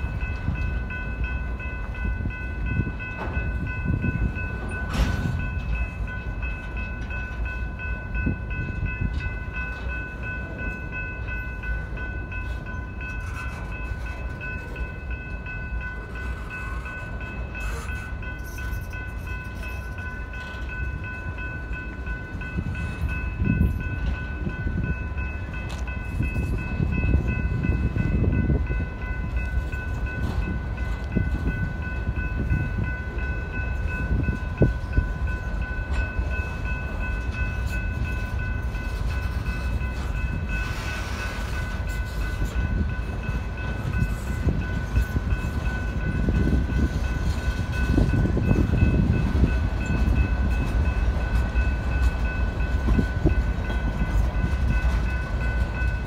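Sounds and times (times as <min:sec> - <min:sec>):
crossing warning bell ringing: 0:00.0 - 0:56.0
freight train wheels rumbling: 0:00.0 - 0:56.0
train cars clanking: 0:00.0 - 0:56.0.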